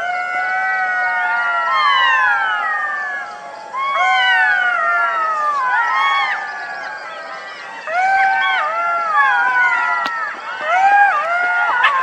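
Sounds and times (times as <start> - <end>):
jackals howling: 0.0 - 12.0.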